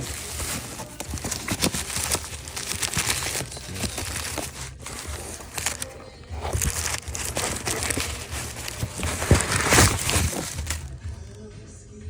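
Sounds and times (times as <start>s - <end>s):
wrapping crinkling and rustling: 0.0s - 11.4s.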